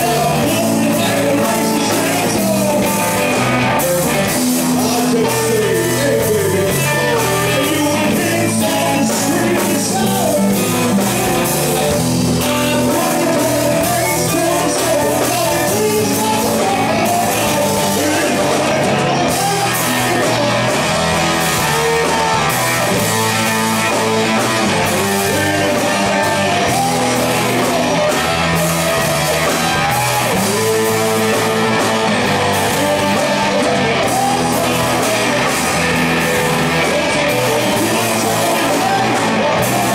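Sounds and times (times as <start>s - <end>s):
drums: 0.0s - 39.9s
electric guitars: 0.0s - 39.9s
person singing: 0.0s - 39.9s.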